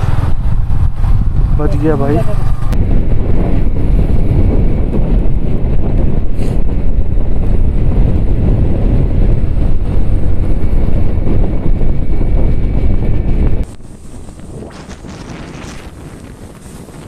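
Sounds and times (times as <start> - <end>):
motorcycle running: 0.0 - 17.0
road noise: 0.0 - 17.0
wind buffeting microphone: 0.0 - 17.0.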